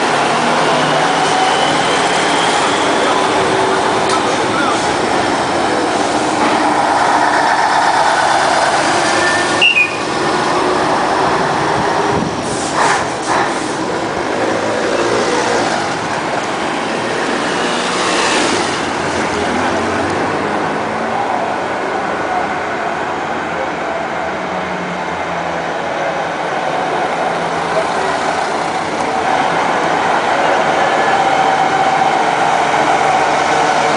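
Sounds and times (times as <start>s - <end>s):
trucks driving past: 0.0s - 33.9s.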